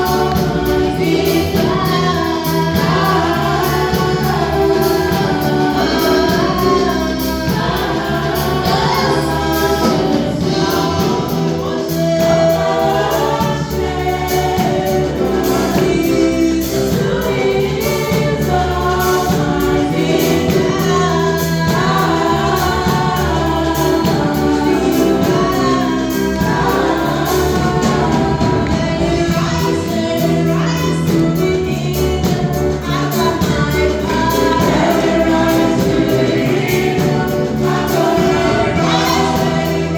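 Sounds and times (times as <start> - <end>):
band playing with steady beat: 0.0 - 39.9
choir singing: 0.0 - 39.9.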